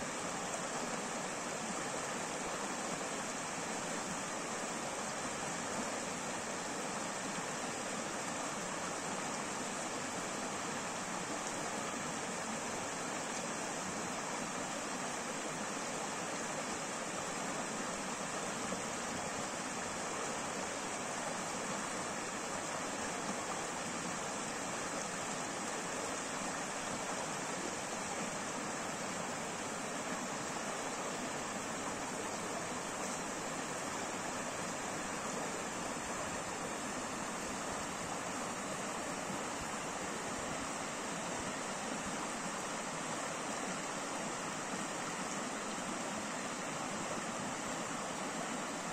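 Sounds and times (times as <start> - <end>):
stream flowing over stones: 0.0 - 48.9.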